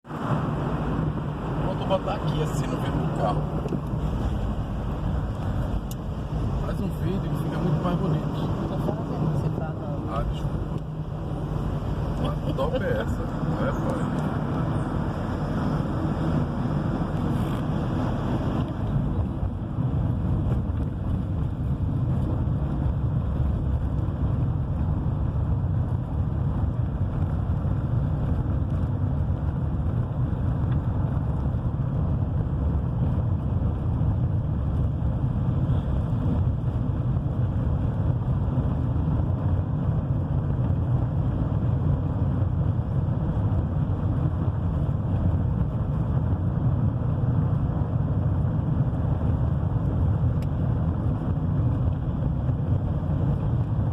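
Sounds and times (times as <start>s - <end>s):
car driving cabin rumble: 0.0s - 53.9s.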